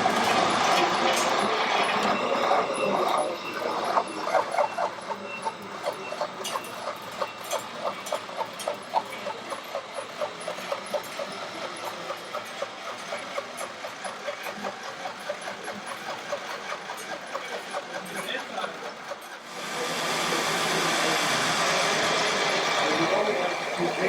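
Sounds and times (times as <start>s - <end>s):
simulated diesel engine chugging: 0.0s - 24.0s.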